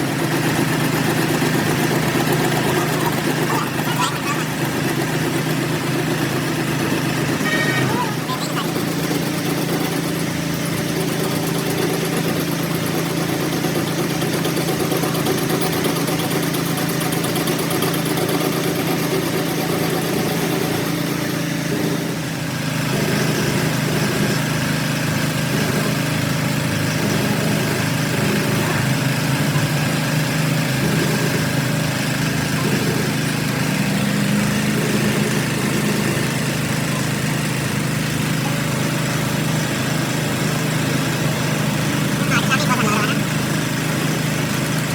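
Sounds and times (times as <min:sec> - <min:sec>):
engine humming steadily: 0:00.0 - 0:44.9.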